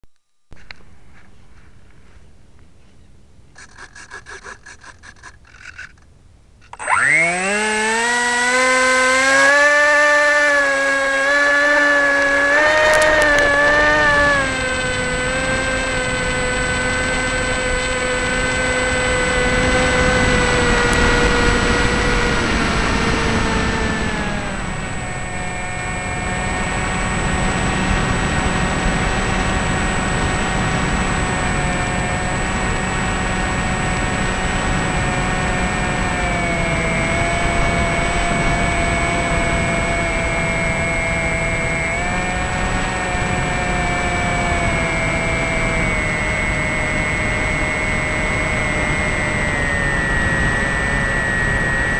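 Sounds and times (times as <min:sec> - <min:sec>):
electric motor whine: 0:00.0 - 0:01.4, 0:03.6 - 0:06.0, 0:06.6 - 0:51.9
rapid motor pulses: 0:03.6 - 0:06.0, 0:06.6 - 0:51.9.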